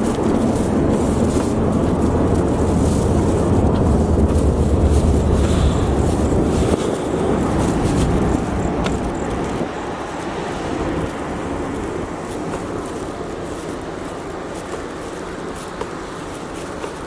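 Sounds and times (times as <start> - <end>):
ship engines rumbling: 0.0 - 17.0
wind: 0.0 - 17.0.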